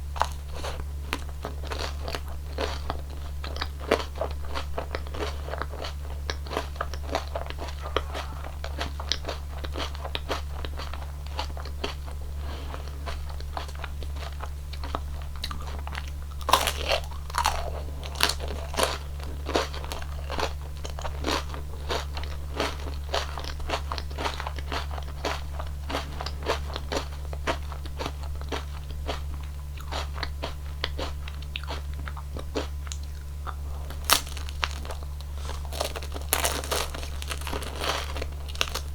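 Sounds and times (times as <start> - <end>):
crunching ice cream cone: 0.0 - 38.9
low steady hum: 0.0 - 38.9.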